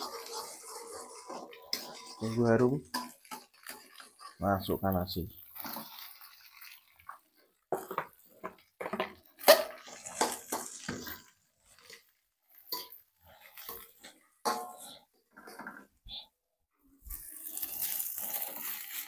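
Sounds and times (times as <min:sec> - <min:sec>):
metal spatula scraping a wok: 0:00.0 - 0:16.3, 0:17.0 - 0:19.0.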